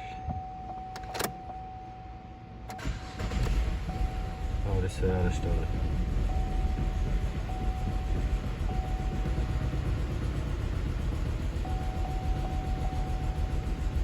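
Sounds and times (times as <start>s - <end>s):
car engine idling: 2.6s - 14.0s.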